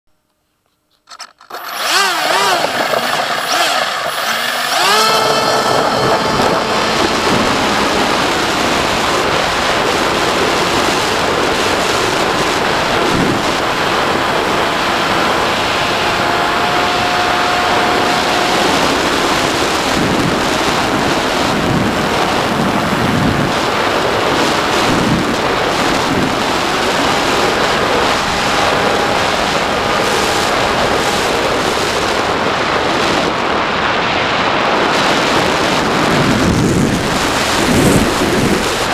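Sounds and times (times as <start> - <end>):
electric motor and propeller: 1.0 - 33.3, 36.0 - 38.9
wind rush on microphone: 4.6 - 38.9.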